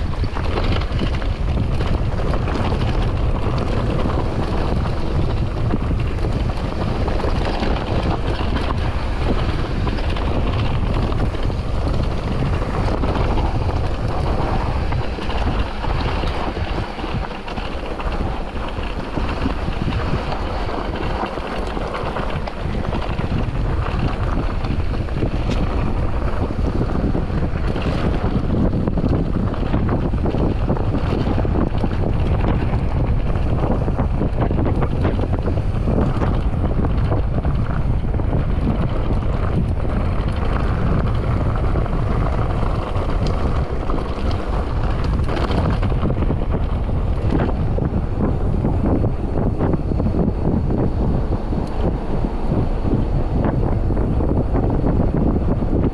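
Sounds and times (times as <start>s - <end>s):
bike rumbling and rattling: 0.0s - 55.9s
wind on microphone: 0.0s - 55.9s.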